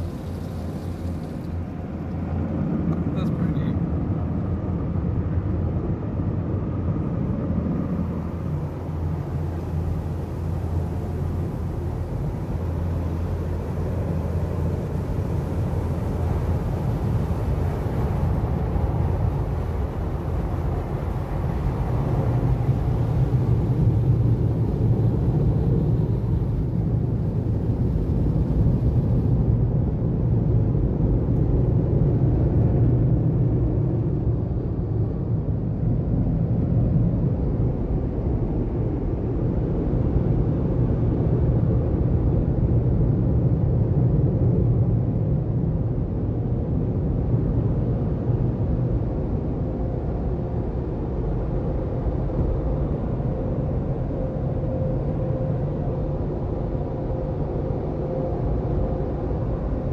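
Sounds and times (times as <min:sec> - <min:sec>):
low machinery rumble: 0:00.0 - 0:59.9.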